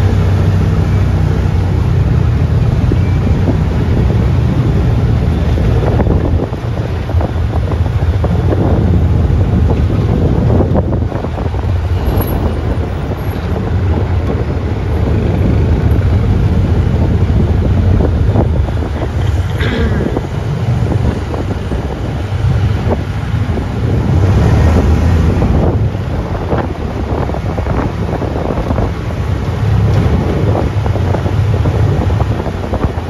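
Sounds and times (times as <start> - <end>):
off-road vehicle engine: 0.0 - 33.0
wind buffeting microphone: 0.0 - 33.0.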